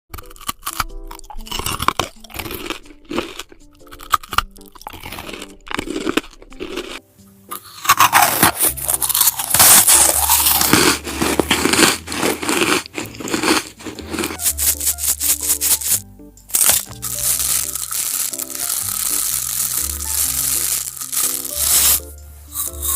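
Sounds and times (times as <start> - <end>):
background music: 0.1 - 22.9
food crunching being chewed: 0.1 - 22.9.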